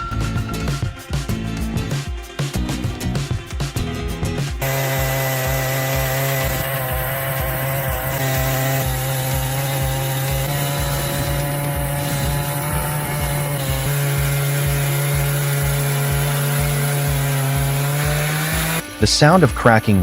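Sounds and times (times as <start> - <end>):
background music with steady beat: 0.0 - 20.0
chainsaw cutting wood: 0.0 - 20.0.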